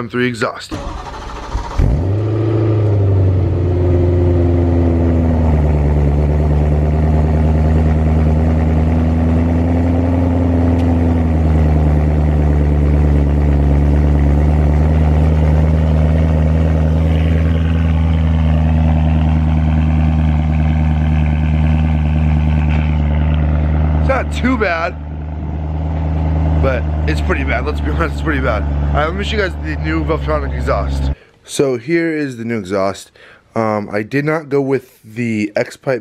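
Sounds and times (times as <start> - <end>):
car engine idling: 0.7 - 31.2.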